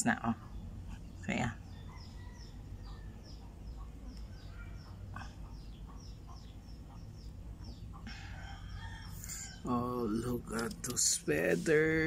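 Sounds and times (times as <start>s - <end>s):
bird chirping: 0.0s - 12.0s
low steady hum: 0.0s - 12.0s.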